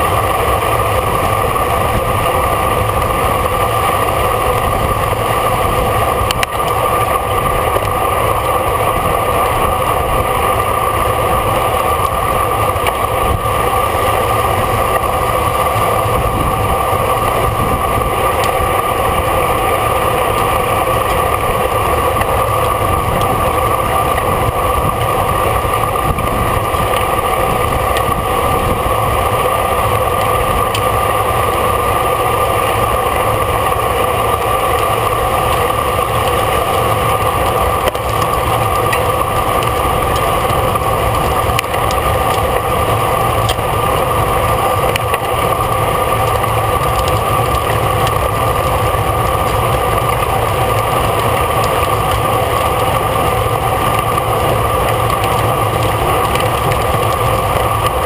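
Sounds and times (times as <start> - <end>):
constant hum: 0.0 - 58.0
wind rushing over microphone: 0.0 - 58.0.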